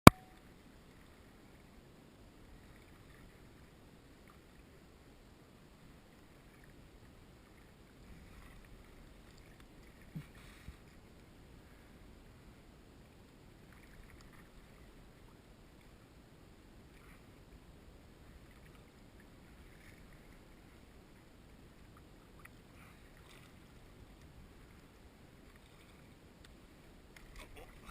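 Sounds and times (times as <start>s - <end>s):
faint low rumble: 0.0s - 27.9s.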